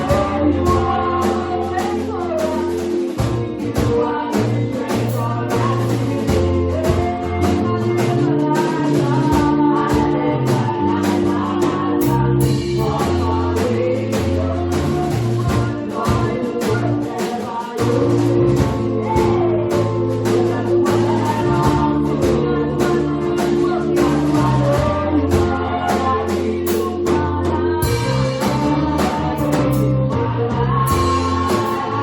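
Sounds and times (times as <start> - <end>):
bass line: 0.0 - 32.0
church choir singing: 0.0 - 32.0
steady drum beat: 0.0 - 32.0.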